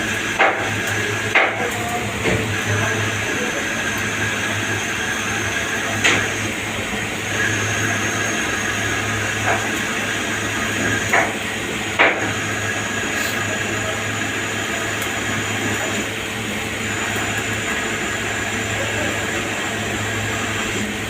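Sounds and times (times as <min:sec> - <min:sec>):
lathe machining hum and whine: 0:00.0 - 0:21.0.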